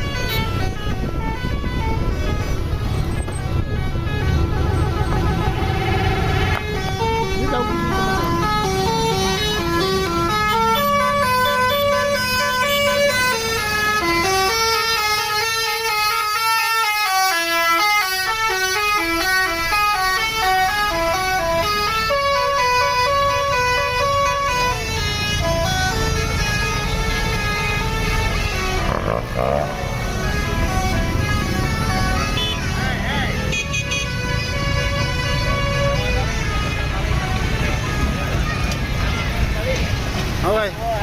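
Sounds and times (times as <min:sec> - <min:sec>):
musical bus horn tune: 0:00.0 - 0:39.4
bus engine rumble: 0:00.0 - 0:41.0.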